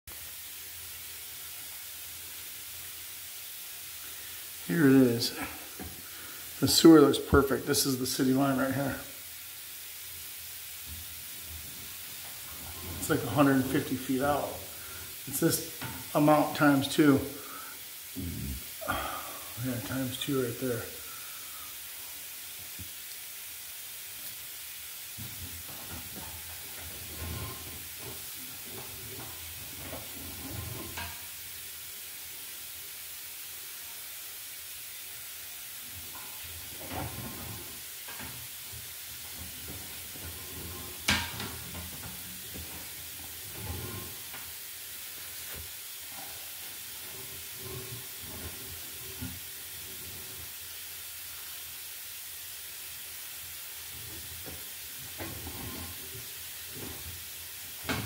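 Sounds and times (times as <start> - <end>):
steady hiss: 0.1 - 58.0.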